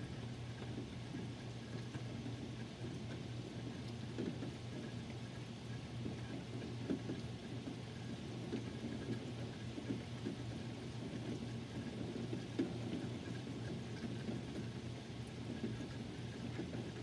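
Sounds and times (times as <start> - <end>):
raindrops pattering: 0.0 - 17.0.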